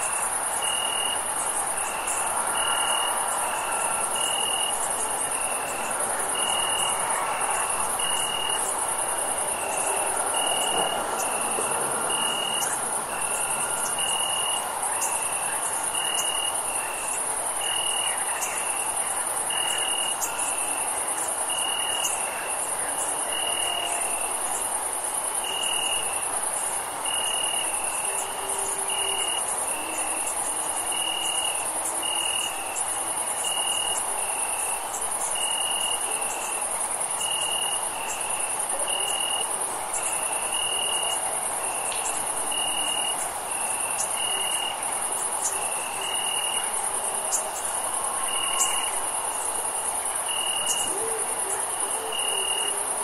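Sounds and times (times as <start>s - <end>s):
crickets high-pitched trill: 0.0s - 53.0s
lower cricket chirp: 0.0s - 53.0s.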